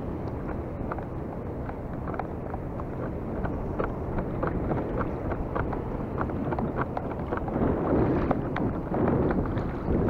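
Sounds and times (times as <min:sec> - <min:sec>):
water lapping against hull: 0:00.0 - 0:10.0
wind buffeting microphone: 0:00.0 - 0:10.0.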